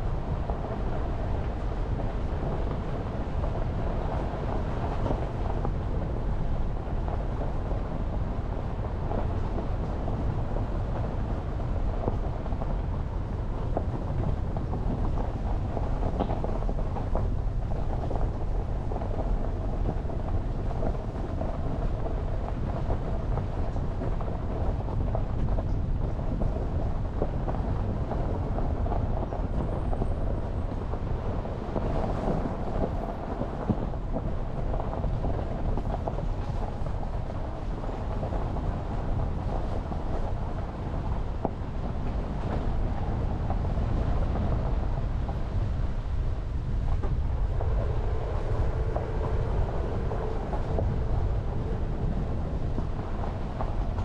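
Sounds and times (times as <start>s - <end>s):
car road and tyre noise: 0.0s - 54.0s.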